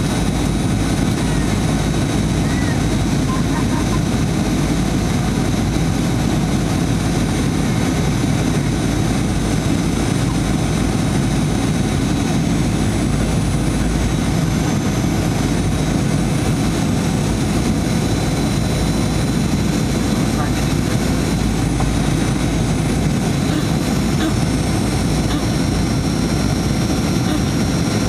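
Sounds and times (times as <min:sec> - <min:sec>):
jet engine roar in cabin: 0:00.0 - 0:28.0.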